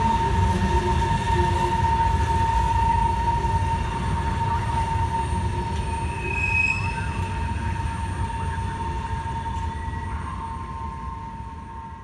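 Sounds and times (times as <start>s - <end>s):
low rumble of train cars: 0.0s - 12.0s
train wheel squeal: 0.0s - 12.0s.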